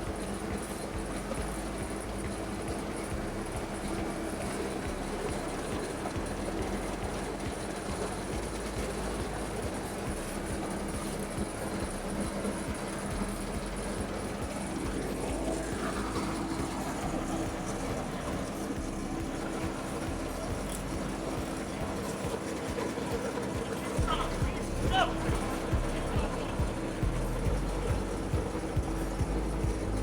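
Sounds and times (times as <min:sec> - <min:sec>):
heavy engine running: 0:00.0 - 0:30.0.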